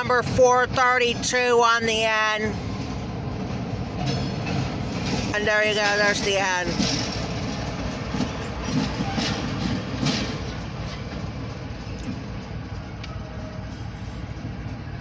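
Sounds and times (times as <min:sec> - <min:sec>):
train wheels clicking over rail joints: 0:00.0 - 0:13.5.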